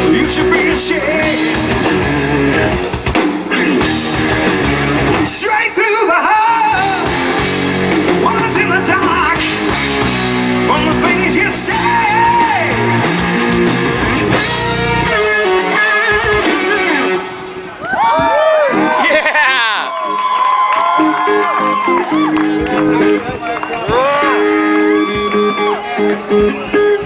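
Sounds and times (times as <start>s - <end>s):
hard rock band playing live: 0.0s - 17.8s, 21.0s - 27.0s
bending electric guitar lead: 0.0s - 20.2s, 20.9s - 27.0s.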